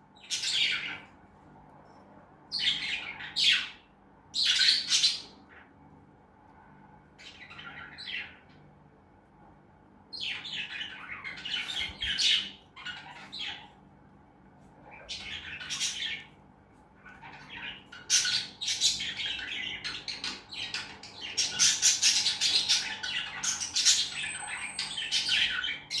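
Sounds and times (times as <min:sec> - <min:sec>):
lovebirds chirping and chattering: 0:00.0 - 0:01.2, 0:02.5 - 0:05.9, 0:07.2 - 0:08.6, 0:10.1 - 0:13.9, 0:14.7 - 0:26.0.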